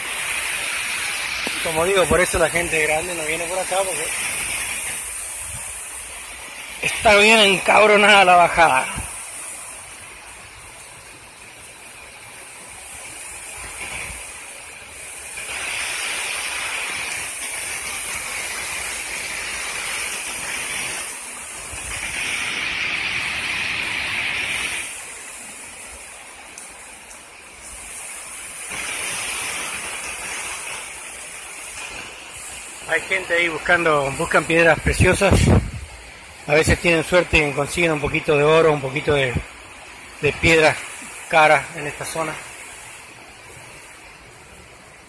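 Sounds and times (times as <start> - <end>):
water rushing over a dam: 0.0 - 45.0.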